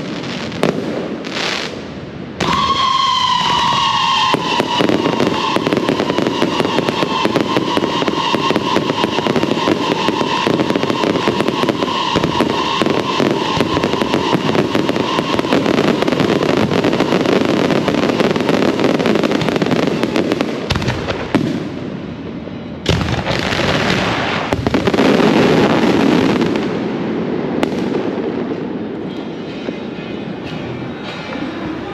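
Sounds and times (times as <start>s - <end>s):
firecrackers cracking: 0.0s - 21.9s, 22.8s - 29.1s
firework whistling tone: 0.0s - 31.9s.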